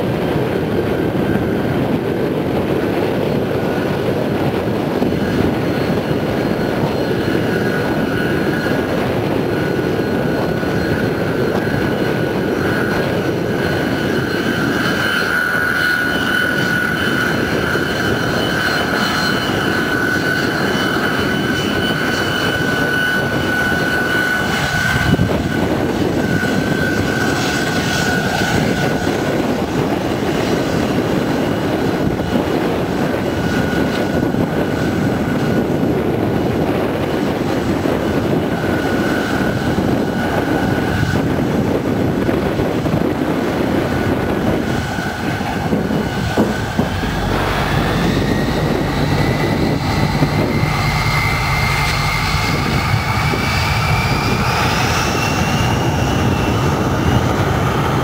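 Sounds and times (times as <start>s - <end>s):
jet engine whine: 0.0s - 58.0s
rushing jet noise: 0.0s - 58.0s.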